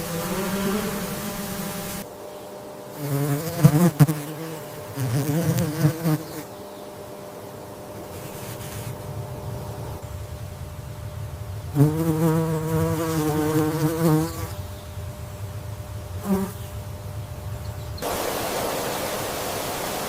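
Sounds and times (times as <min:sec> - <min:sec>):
insect wings buzzing: 0:00.0 - 0:02.1, 0:02.9 - 0:06.6, 0:08.0 - 0:19.2.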